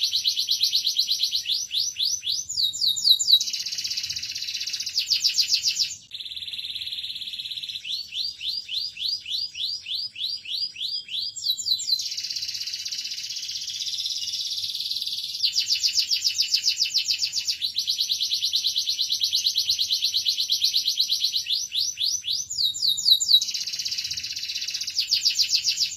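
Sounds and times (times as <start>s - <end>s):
canary singing trills: 0.0s - 25.9s.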